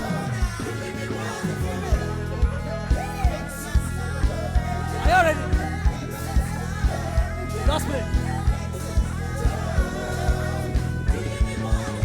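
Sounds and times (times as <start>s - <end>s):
reggae gospel band music: 0.0s - 12.0s.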